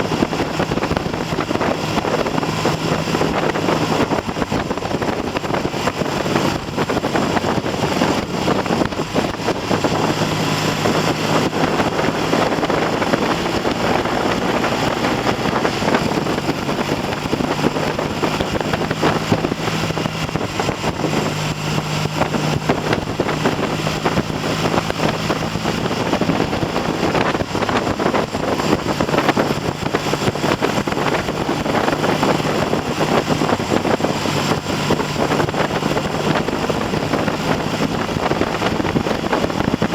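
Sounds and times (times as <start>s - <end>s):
motorcycle engine pulling steadily: 0.0s - 39.9s
wind noise on microphone: 0.0s - 39.9s.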